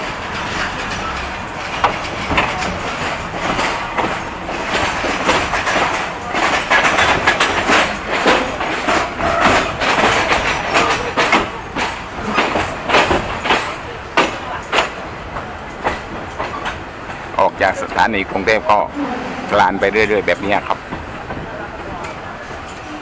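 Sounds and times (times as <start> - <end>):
train wheels clacking over rail joints: 0.0 - 23.0.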